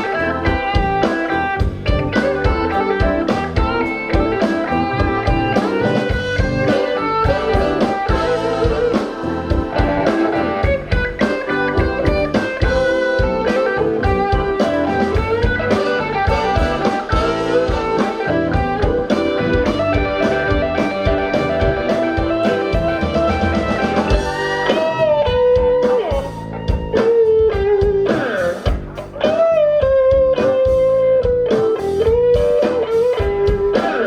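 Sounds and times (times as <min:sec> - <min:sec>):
drum kit: 0:00.0 - 0:34.0
electric guitar: 0:00.0 - 0:34.0.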